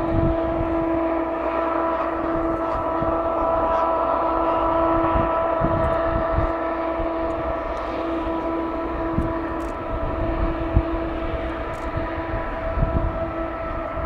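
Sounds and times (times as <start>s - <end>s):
droning tone: 0.0s - 14.0s.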